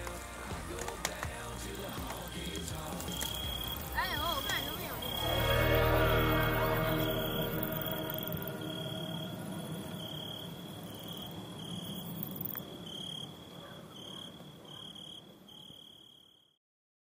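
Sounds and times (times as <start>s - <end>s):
insects chirping: 0.0s - 16.6s.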